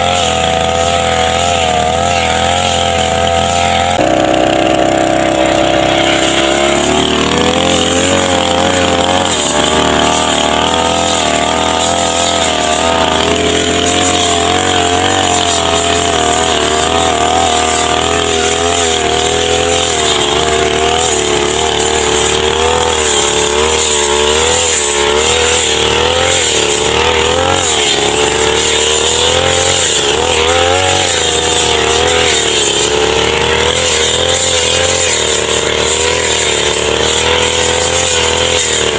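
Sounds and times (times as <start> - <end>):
brush cutter engine revving: 0.0 - 38.9.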